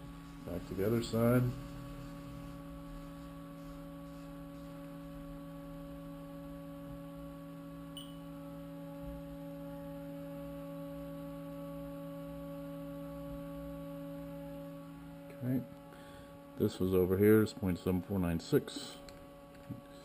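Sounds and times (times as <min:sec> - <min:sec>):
electrical hum of a machine: 0:00.0 - 0:20.0.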